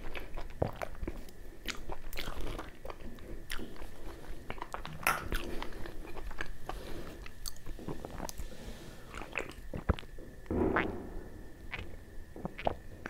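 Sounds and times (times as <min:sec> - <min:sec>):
wet chewing mouth sounds: 0:00.0 - 0:08.5, 0:09.1 - 0:10.9, 0:11.7 - 0:13.0.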